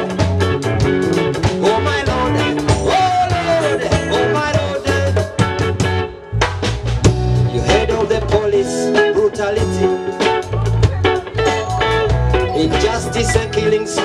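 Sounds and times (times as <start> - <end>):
bass guitar: 0.0 - 14.0
drum kit: 0.0 - 14.0
electric guitar melody: 0.0 - 14.0.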